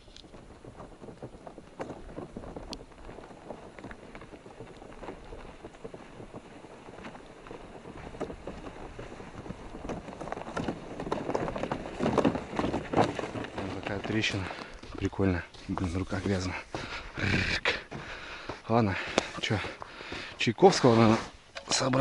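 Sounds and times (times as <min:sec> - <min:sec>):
plastic sled dragging on snow: 0:00.0 - 0:22.0
boots crunching through snow: 0:01.7 - 0:22.0.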